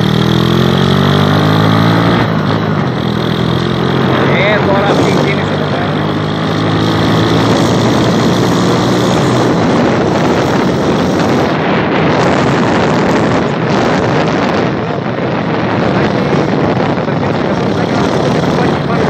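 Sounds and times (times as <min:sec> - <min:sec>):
moped engine drone: 0:00.0 - 0:19.0
wind buffeting microphone: 0:00.0 - 0:19.0.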